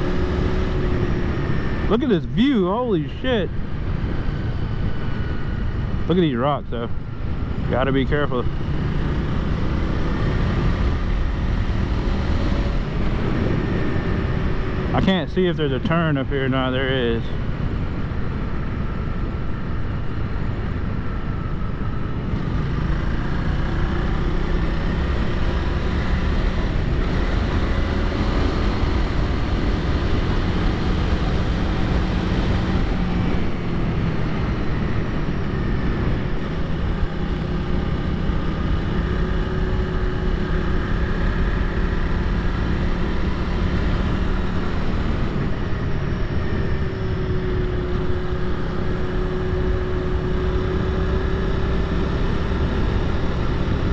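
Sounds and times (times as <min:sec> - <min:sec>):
motorcycle engine running: 0:00.0 - 0:06.1, 0:06.7 - 0:53.9.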